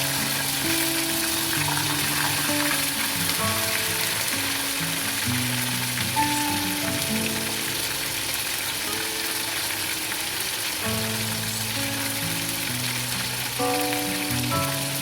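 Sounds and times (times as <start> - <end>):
background music: 0.0 - 9.9, 10.8 - 15.0
food sizzling in hot oil: 0.0 - 15.0.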